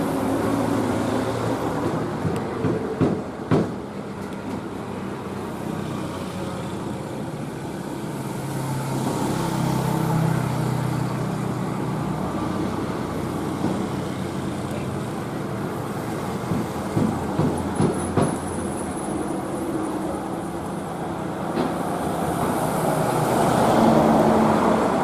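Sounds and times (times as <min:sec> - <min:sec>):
diesel truck engine drone: 0:00.0 - 0:25.0
road traffic: 0:00.0 - 0:25.0.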